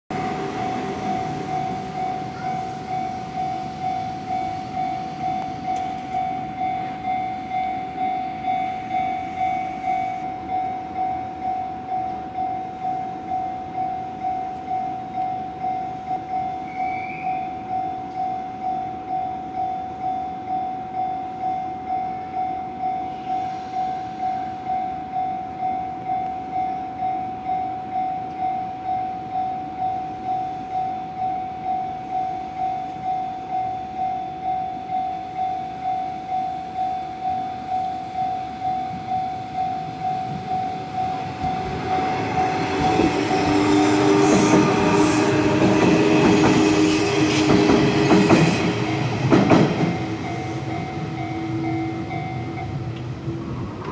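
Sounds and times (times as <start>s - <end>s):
train passing: 0.1s - 53.9s.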